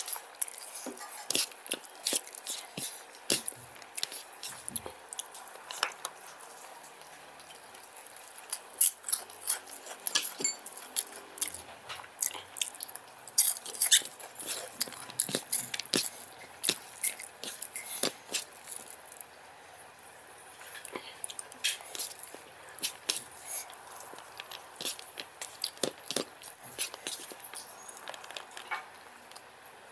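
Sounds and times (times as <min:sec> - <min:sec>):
person chewing with lip smacks: 0:00.0 - 0:19.3, 0:20.6 - 0:29.4.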